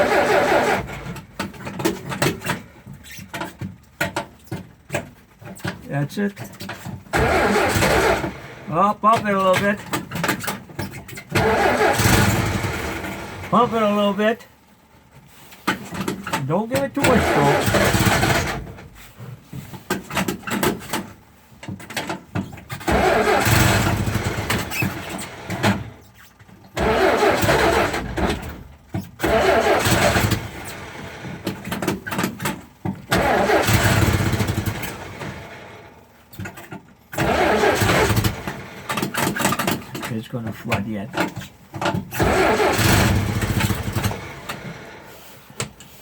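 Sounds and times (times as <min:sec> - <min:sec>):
car engine cranking: 0:00.0 - 0:46.0.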